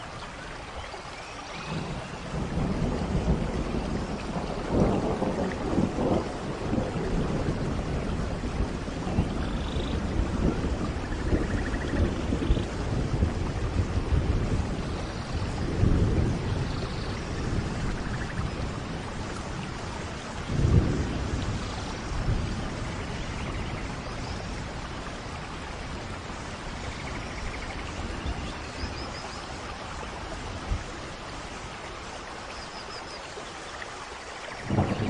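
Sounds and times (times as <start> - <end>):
heavy rain: 0.0 - 35.0
low thunder rolls: 1.6 - 31.2, 34.5 - 35.0.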